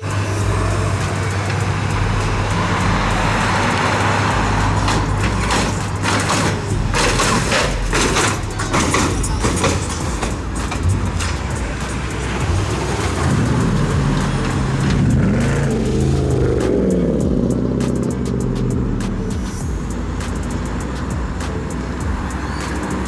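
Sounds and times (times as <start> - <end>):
car engines humming: 0.0 - 23.0
road noise: 0.0 - 23.0.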